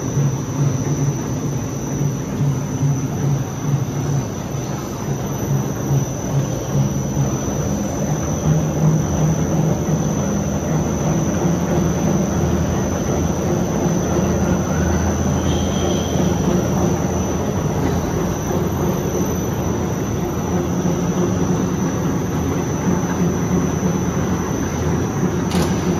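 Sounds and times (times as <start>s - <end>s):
high-pitched whine: 0.0s - 25.9s
printing machine running: 0.0s - 25.9s.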